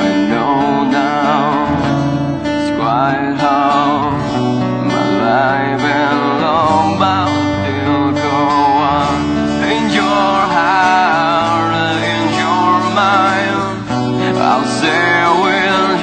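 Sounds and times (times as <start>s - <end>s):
person singing with vibrato: 0.0s - 16.0s
strummed acoustic guitar: 0.0s - 16.0s.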